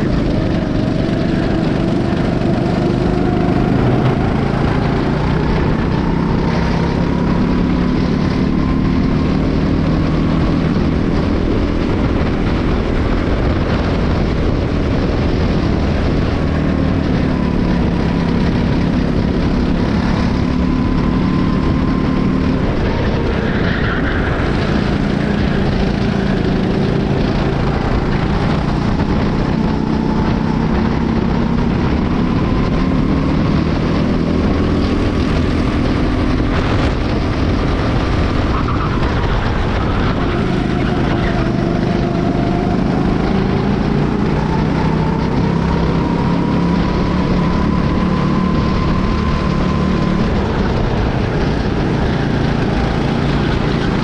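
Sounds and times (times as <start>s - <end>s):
kart engine revving: 0.0s - 54.0s
steady rushing noise: 0.0s - 54.0s.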